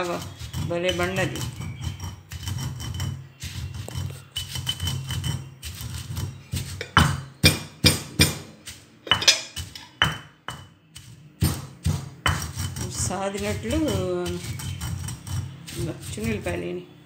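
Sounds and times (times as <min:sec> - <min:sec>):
stone pestle pounding in mortar: 0:00.0 - 0:16.7.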